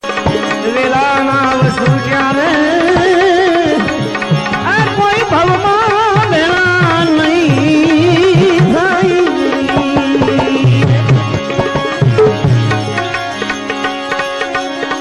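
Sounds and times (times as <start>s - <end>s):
tabla rhythm: 0.0s - 15.0s
wavering ornamented melody: 0.2s - 15.0s.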